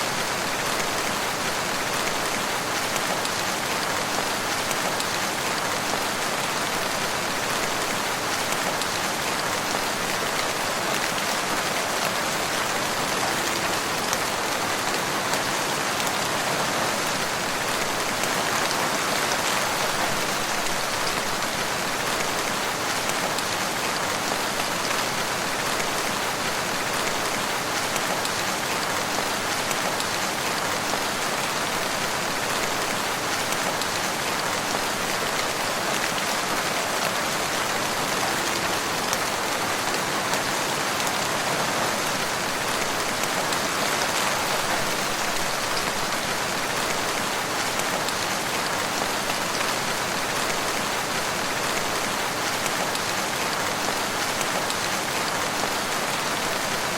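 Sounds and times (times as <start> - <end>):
rain falling in forest: 0.0 - 56.9.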